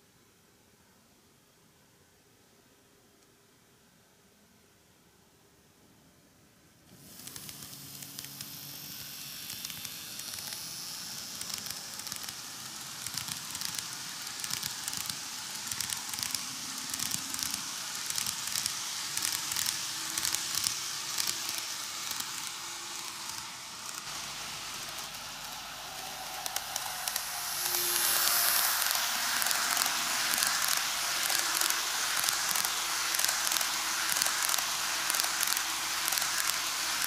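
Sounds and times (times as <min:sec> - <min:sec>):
model train wheels on rail: 0:06.8 - 0:37.0.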